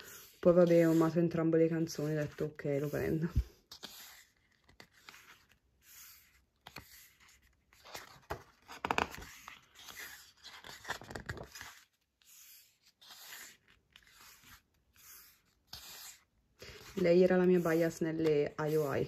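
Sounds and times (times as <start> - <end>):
book pages rustling: 0.0 - 19.0.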